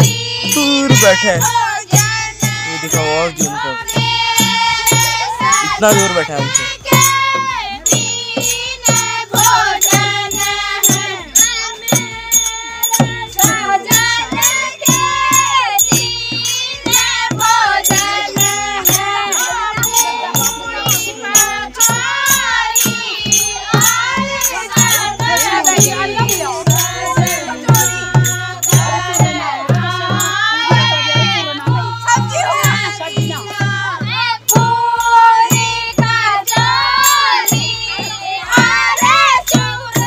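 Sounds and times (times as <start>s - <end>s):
barrel drum beaten: 0.0s - 40.0s
women singing folk song: 0.0s - 40.0s.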